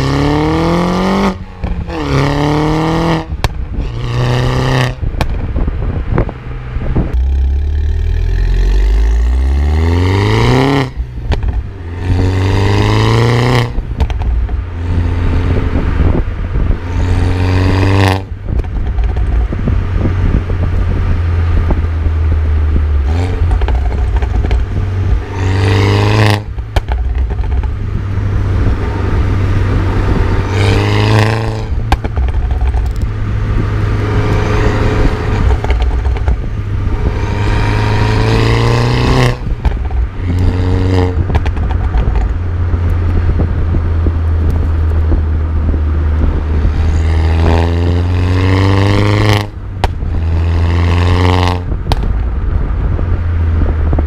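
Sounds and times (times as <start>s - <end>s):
car engine accelerating hard: 0.0s - 54.0s
exhaust pops: 1.0s - 54.0s.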